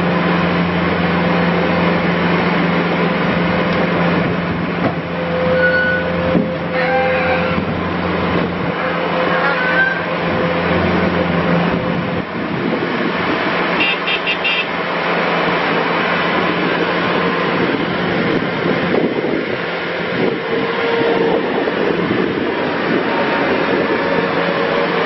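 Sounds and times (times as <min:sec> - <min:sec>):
loader diesel engine running: 0:00.0 - 0:25.0.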